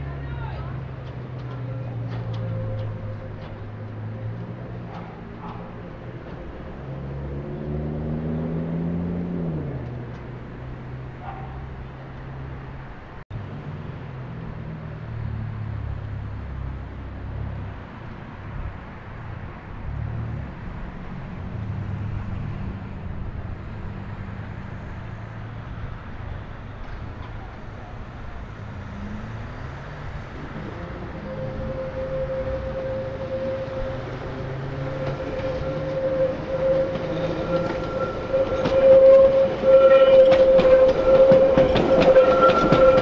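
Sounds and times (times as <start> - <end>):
train rumble: 0.0 - 13.6, 14.4 - 43.0.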